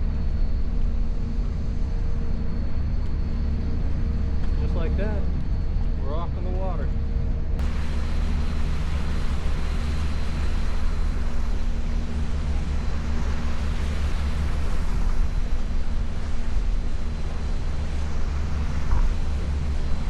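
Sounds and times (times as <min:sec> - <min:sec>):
ship engine low rumble: 0:00.0 - 0:20.0
water noise: 0:00.0 - 0:20.0
wind: 0:00.0 - 0:20.0.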